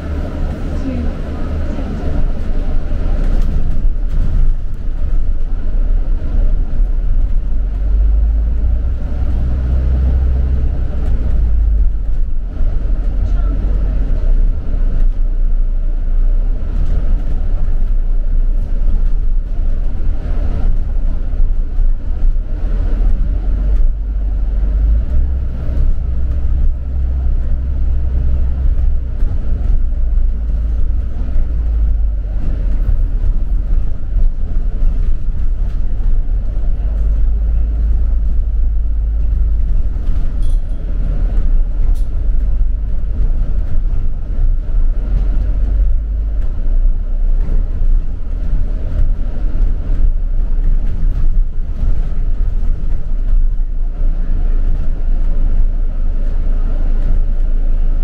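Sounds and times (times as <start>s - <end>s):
bus engine drone: 0.0s - 58.0s
road rumble: 0.0s - 58.0s.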